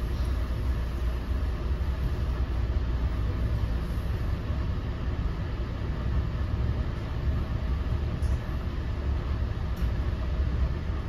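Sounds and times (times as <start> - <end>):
train coach rumble and hiss: 0.0 - 11.0.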